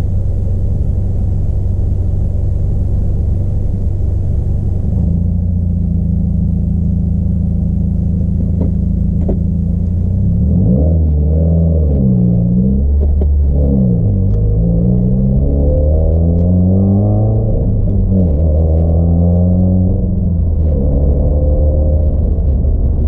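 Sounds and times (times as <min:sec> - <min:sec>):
car engine idling: 0:00.0 - 0:10.6, 0:12.1 - 0:23.0.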